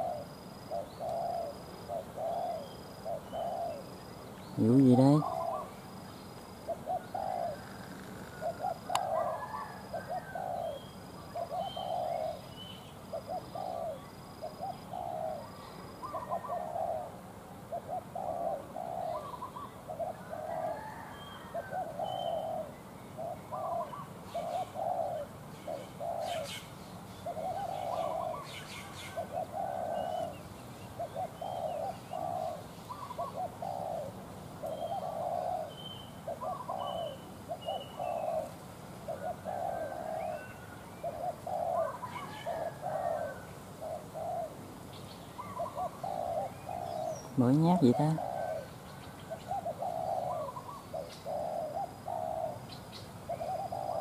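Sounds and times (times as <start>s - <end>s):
doves cooing: 0.0s - 54.0s
small birds chirping: 0.0s - 54.0s.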